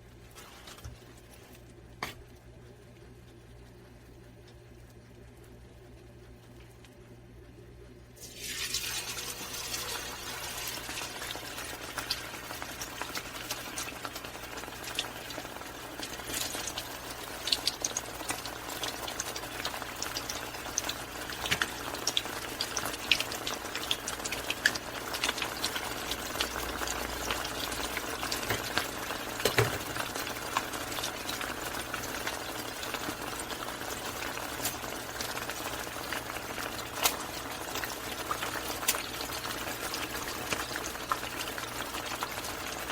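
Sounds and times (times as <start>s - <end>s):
hot oil sizzling: 8.2s - 42.9s
oil crackling and popping: 8.2s - 42.9s.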